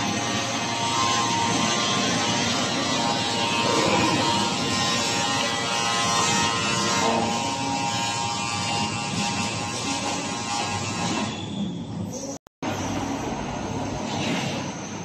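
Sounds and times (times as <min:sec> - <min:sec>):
dough sheeter machine humming: 0:00.0 - 0:15.0.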